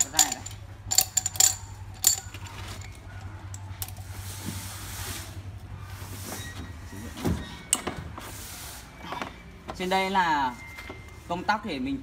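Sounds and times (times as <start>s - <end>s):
low background hum and hiss: 0.0s - 12.0s.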